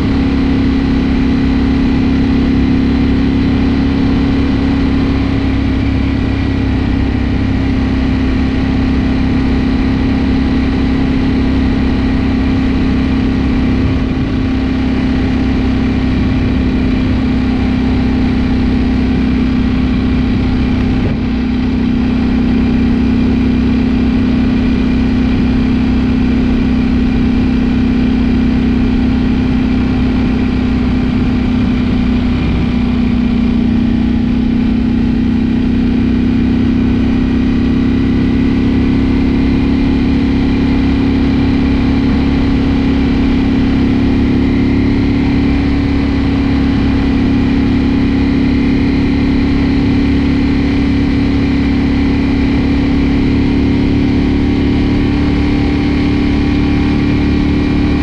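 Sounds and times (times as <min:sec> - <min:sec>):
motorcycle engine running: 0:00.0 - 0:58.0
wind and road rush: 0:00.0 - 0:58.0.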